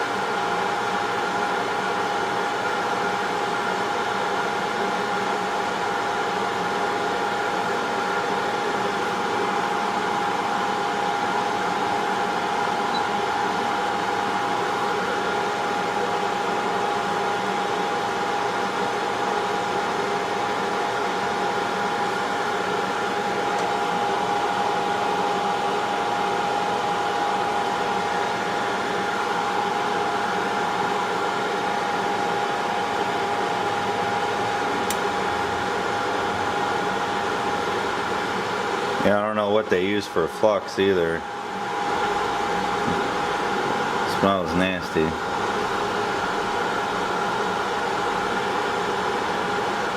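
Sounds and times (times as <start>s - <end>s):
hot air blower with fan whine: 0.0s - 49.9s.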